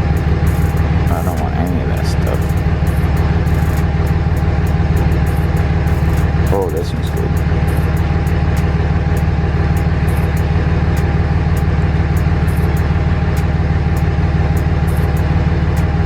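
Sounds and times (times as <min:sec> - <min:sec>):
faint regular ticking: 0:00.0 - 0:15.9
diesel engine idling: 0:00.0 - 0:16.0.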